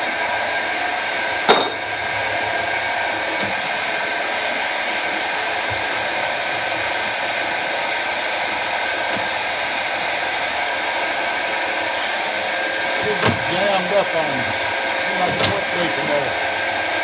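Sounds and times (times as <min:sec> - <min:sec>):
lathe running: 0:00.0 - 0:17.0.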